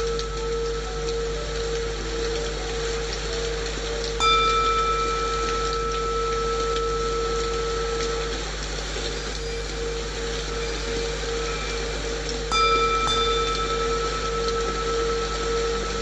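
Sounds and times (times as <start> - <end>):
rain white noise hiss: 0.0 - 16.0
singing bowl ringing: 0.0 - 16.0.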